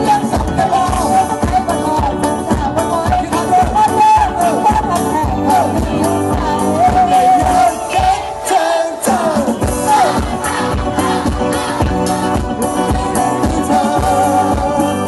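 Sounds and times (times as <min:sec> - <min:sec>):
live band playing pop song: 0:00.0 - 0:15.0
people singing into microphones: 0:00.0 - 0:15.0.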